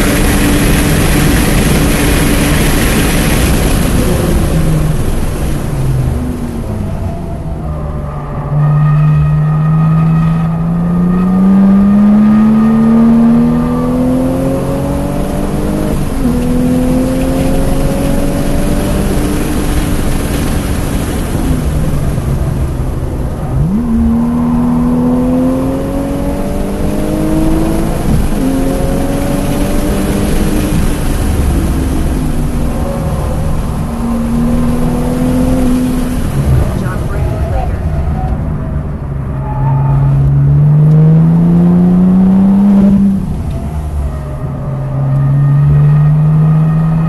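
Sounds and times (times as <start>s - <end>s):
car engine at full throttle: 0.0s - 47.0s
road and wind noise: 0.0s - 47.0s.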